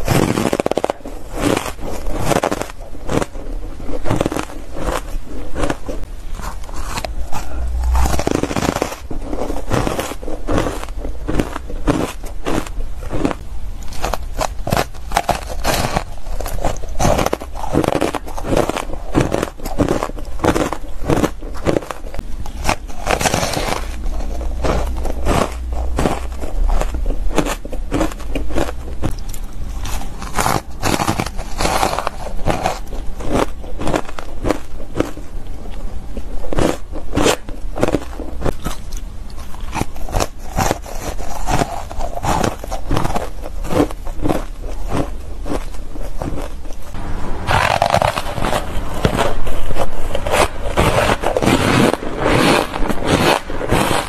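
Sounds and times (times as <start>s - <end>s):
crunching and chewing ice: 0.0s - 54.0s.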